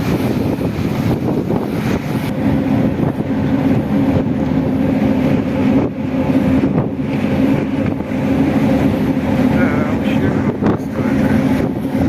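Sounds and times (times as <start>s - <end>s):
boat diesel engine running: 0.0s - 12.0s
rushing water: 0.0s - 12.0s.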